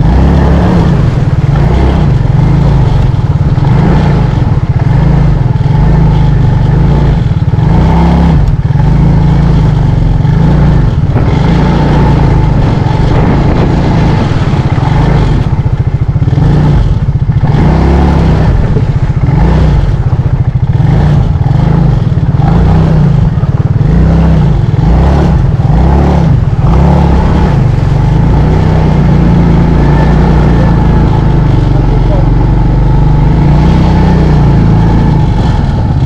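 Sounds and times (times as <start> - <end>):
quad engine revving: 0.0 - 36.0.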